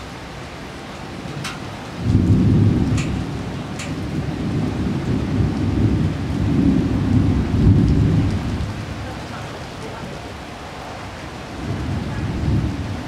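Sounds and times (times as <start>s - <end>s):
rain hissing: 0.0s - 13.0s
thunder rumbling: 1.0s - 13.0s.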